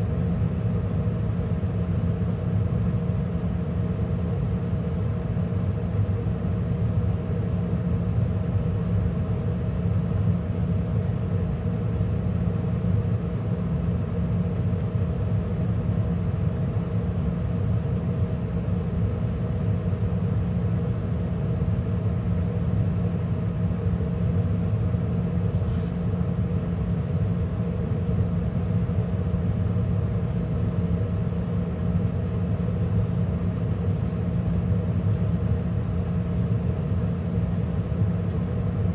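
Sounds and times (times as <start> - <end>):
gas furnace running: 0.0 - 38.9.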